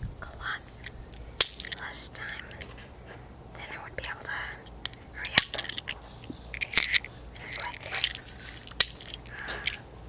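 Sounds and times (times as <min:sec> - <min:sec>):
crunching and crackling clicks: 0:00.0 - 0:10.0.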